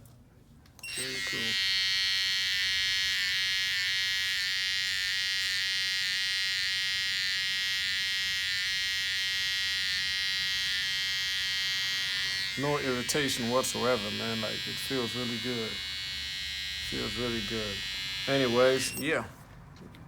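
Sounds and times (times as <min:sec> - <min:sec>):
hair trimmer buzzing: 0:00.8 - 0:19.1.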